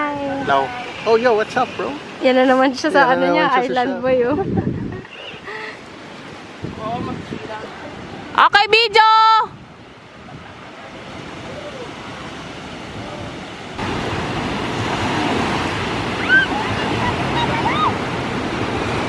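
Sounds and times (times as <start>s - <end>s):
sea surf washing on beach: 0.0s - 19.0s
wind on microphone: 3.5s - 19.0s.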